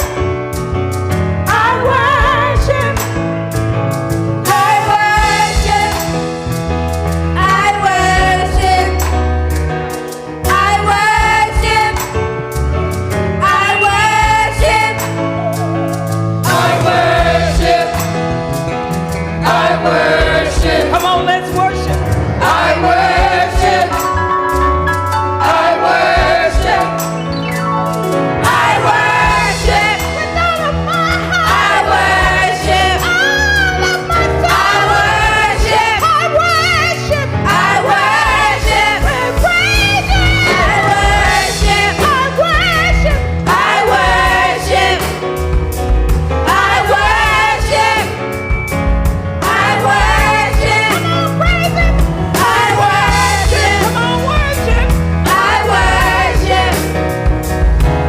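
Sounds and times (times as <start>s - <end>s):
gospel band with bass and keyboard: 0.0s - 58.0s
group of singers: 1.5s - 3.3s, 4.4s - 6.6s, 7.3s - 9.4s, 10.4s - 12.2s, 13.4s - 57.6s.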